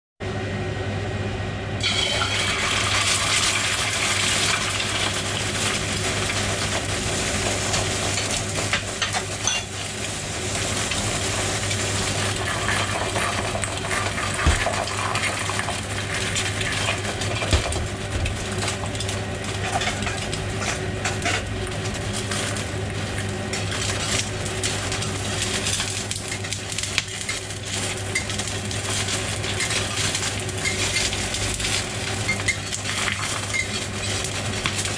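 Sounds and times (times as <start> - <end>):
egg sizzling in hot oil: 1.8 - 34.9.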